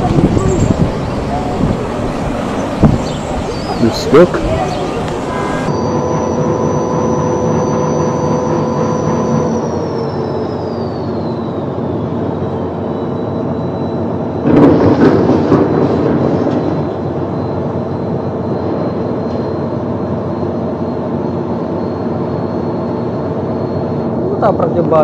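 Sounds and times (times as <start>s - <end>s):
boat engine drone: 0.0s - 25.0s.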